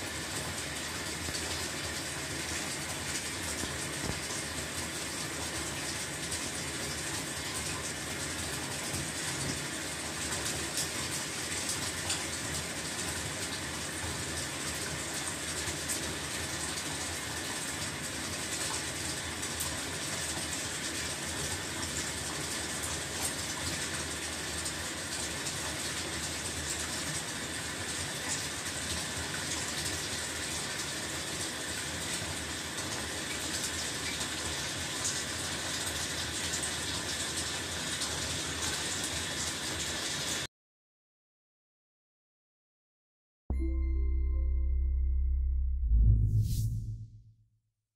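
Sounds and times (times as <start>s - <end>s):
water running into bathtub: 0.0s - 40.5s.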